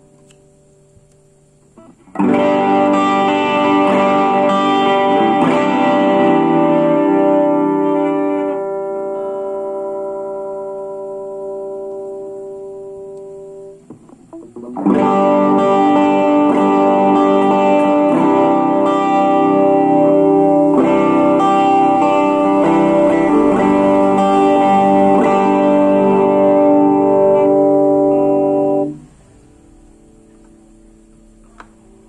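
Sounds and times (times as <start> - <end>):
electric guitar chords: 0.0 - 32.0.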